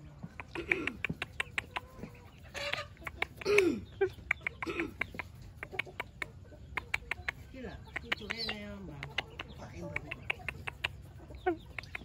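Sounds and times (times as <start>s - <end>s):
chickens clucking: 0.0s - 12.0s
sharp little clicks: 0.4s - 2.0s, 2.7s - 12.0s.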